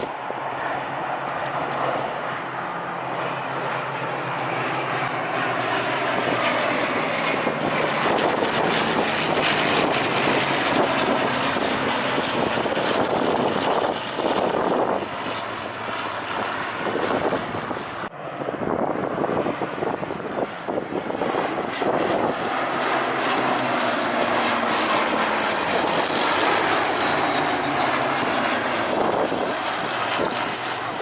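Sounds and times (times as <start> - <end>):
propeller plane flying past: 0.0 - 31.0.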